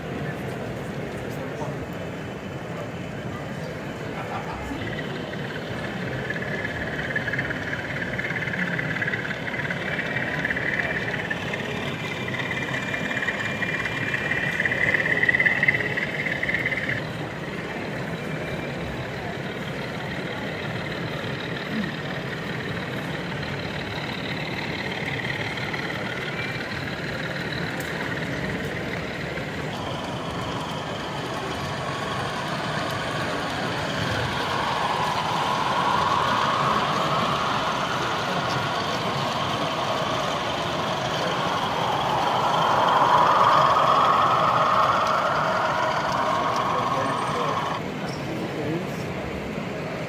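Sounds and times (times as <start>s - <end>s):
hall background noise: 0.0s - 50.0s
model trains rumbling and whining: 0.0s - 50.0s.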